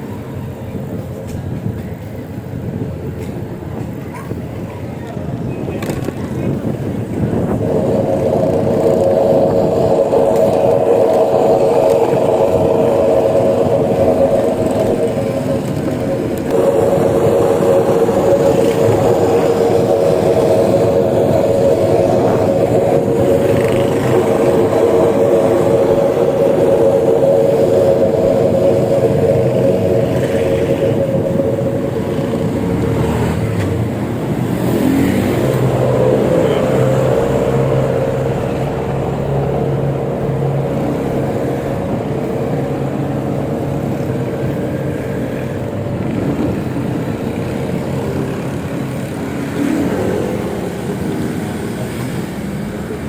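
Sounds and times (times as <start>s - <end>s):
electric bike motor whining: 0.0s - 53.0s
road and tyre noise: 0.0s - 53.0s.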